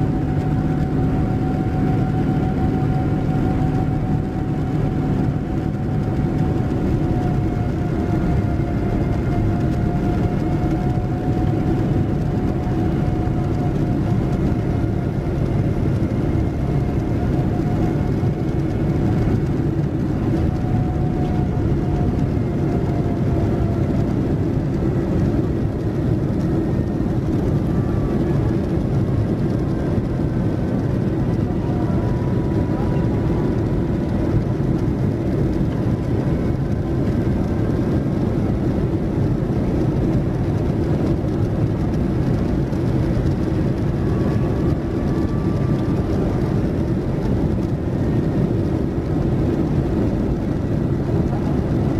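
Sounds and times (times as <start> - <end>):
airplane cabin engine rumble: 0.0 - 51.9
faint engine whine: 0.0 - 51.9.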